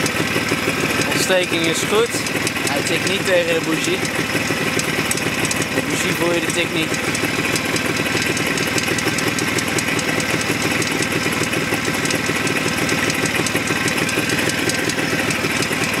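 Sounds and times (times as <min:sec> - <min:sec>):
motorcycle engine idling: 0:00.0 - 0:16.0
rapid regular engine knock: 0:00.0 - 0:16.0.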